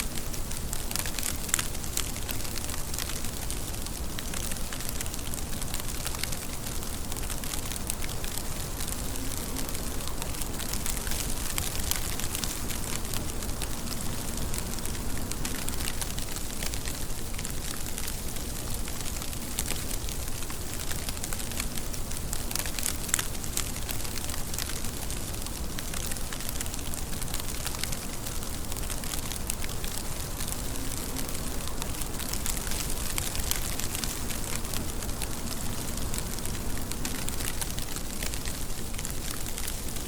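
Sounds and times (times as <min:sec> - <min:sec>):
steady rainfall: 0:00.0 - 0:40.0.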